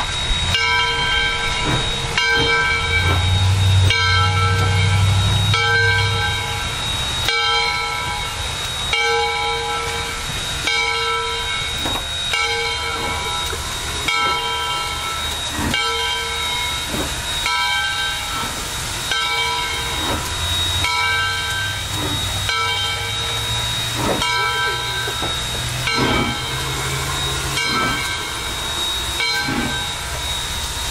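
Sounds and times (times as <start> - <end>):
locomotive bell ringing: 0.0 - 30.9
steam hiss: 0.0 - 30.9
steam locomotive rumble: 0.0 - 30.9.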